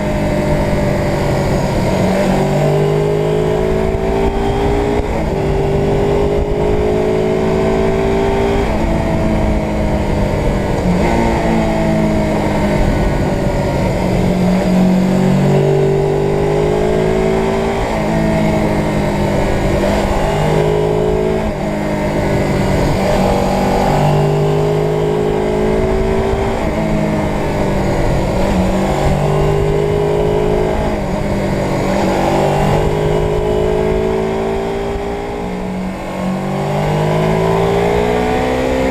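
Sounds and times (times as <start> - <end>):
motorcycle engine accelerating: 0.0 - 38.9
wind rumble on microphone: 0.0 - 38.9.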